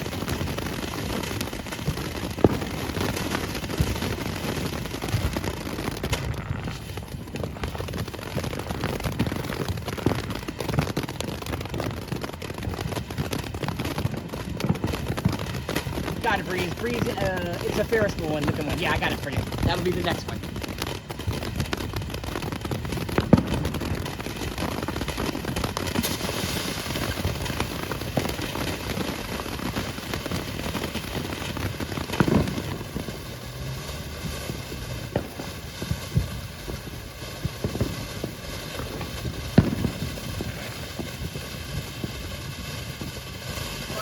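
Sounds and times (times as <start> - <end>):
firework fountain hissing: 0.0 - 44.0
firework pops: 0.0 - 44.0.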